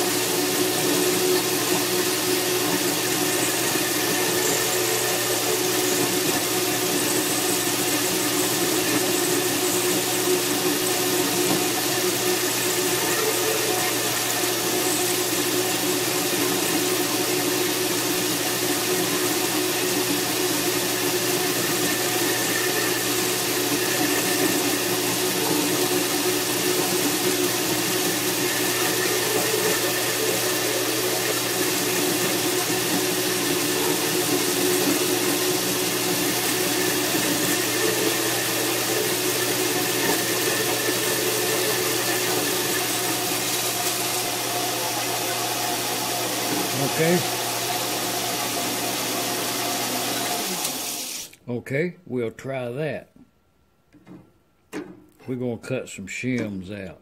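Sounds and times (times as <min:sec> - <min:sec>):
motor hum: 0:00.0 - 0:51.2
bandsaw cutting metal: 0:00.0 - 0:51.4.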